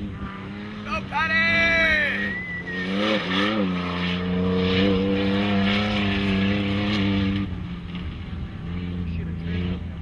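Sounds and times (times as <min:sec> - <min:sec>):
engine running at high revs: 0:00.0 - 0:10.0.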